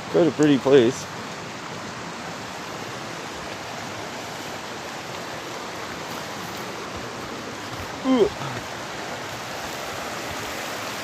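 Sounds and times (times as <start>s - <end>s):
creek and waterfall rushing: 0.0s - 11.0s.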